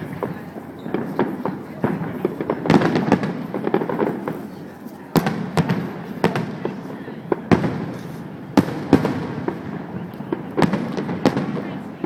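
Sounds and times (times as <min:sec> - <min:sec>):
fireworks bangs: 0:00.0 - 0:12.0
light fireworks pops: 0:00.0 - 0:12.0.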